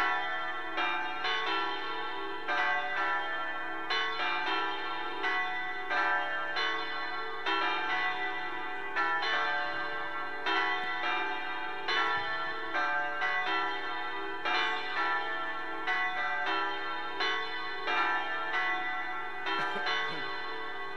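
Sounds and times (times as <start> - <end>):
church bells ringing: 0.0 - 20.9.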